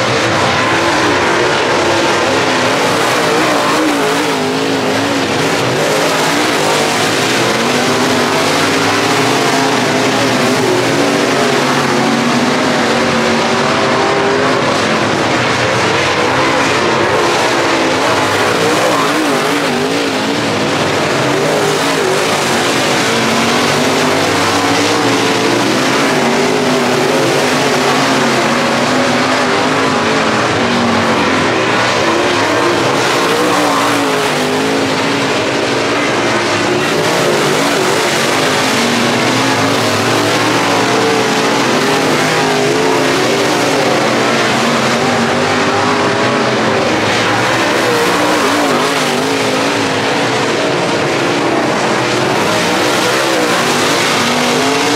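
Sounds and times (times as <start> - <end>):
race car engines: 0.0 - 54.9.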